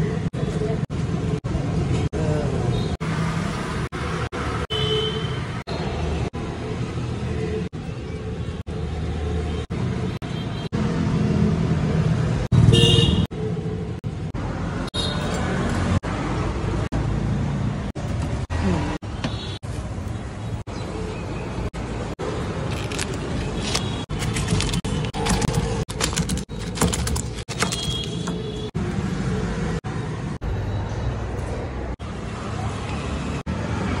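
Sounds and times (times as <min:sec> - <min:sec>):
street traffic rumble: 0:00.0 - 0:34.0.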